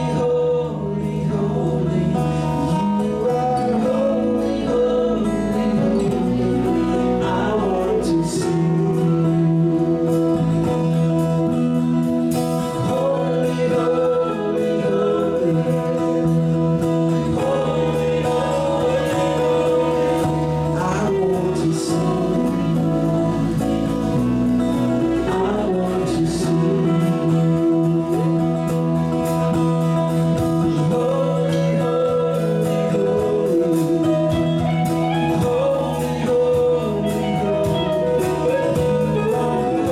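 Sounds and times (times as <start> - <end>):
drums: 0.0 - 39.9
electric bass: 0.0 - 39.9
guitars: 0.0 - 39.9
men singing: 0.0 - 39.9.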